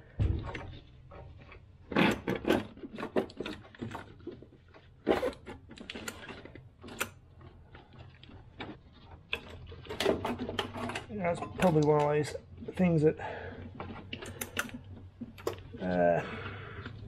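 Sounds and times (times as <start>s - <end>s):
clicks knocks and rattles of hoses: 0.0s - 16.1s.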